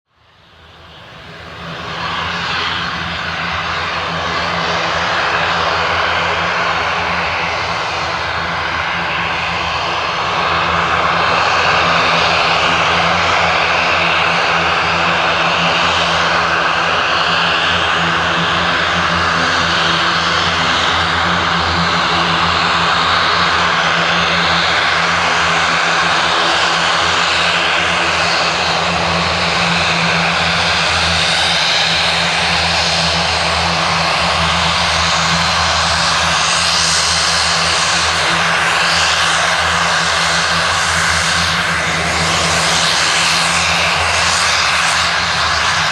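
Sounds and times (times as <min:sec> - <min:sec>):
turboprop propeller drone: 0:00.1 - 0:45.9.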